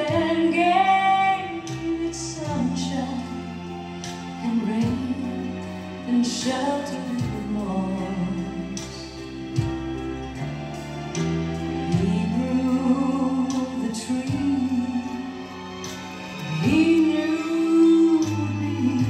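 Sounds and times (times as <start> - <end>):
slow religious song: 0.0 - 19.0.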